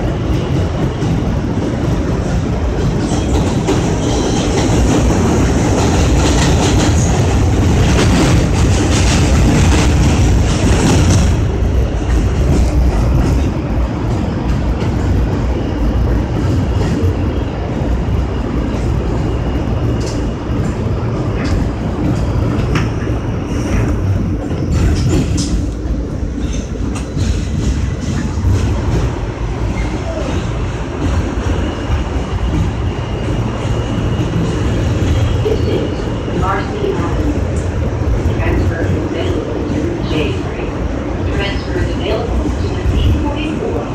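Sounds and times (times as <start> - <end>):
train passing on next track: 0.0 - 43.9
wheels rumbling on rail: 0.0 - 43.9.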